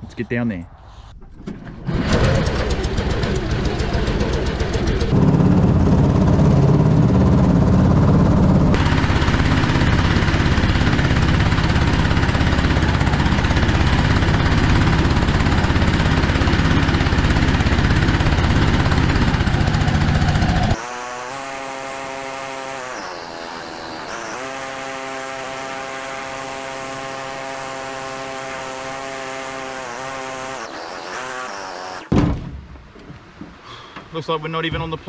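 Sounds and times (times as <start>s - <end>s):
single-cylinder engine running: 2.2s - 32.1s.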